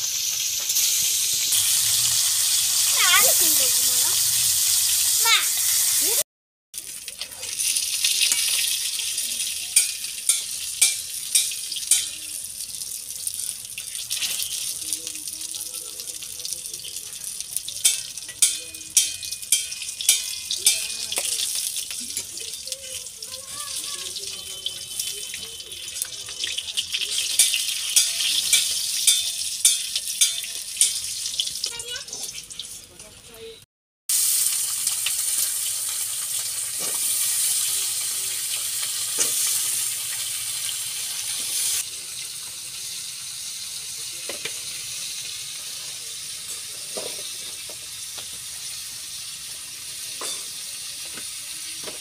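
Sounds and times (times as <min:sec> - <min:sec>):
fish sizzling in oil: 0:00.0 - 0:06.2, 0:06.8 - 0:52.0.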